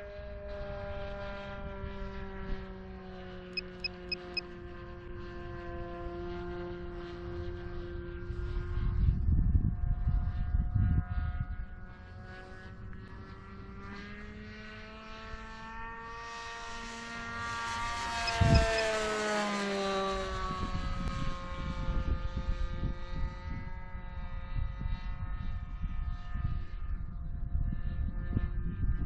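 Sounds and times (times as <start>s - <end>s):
model plane engine buzzing: 0.0s - 9.1s, 11.2s - 28.8s.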